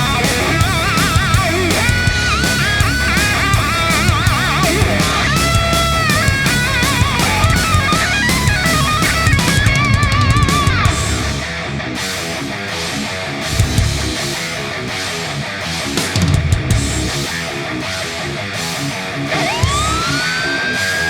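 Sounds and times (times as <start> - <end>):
distorted electric guitar lead: 0.0 - 21.0
rock music backing with drums: 0.0 - 21.0.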